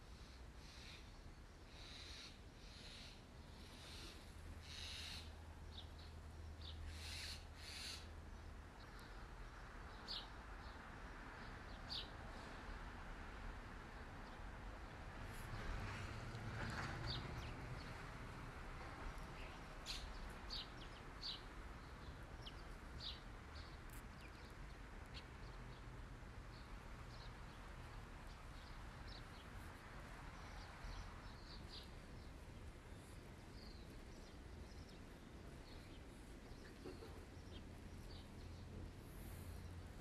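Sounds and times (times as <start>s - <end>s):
low outdoor hiss: 0.0s - 40.0s.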